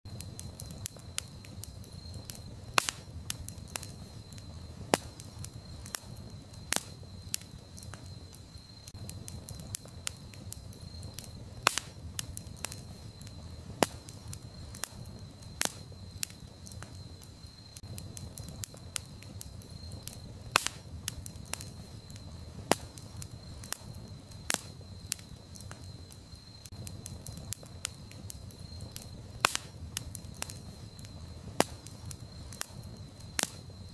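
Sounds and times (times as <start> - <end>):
campfire crackling and popping: 0.1 - 33.9
low rumble of flames: 0.1 - 33.9.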